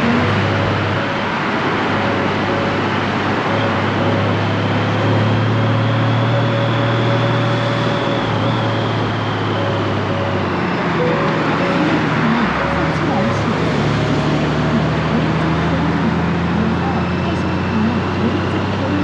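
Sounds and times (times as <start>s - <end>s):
wind and road noise: 0.0s - 19.0s
short repeating tone: 2.0s - 19.0s.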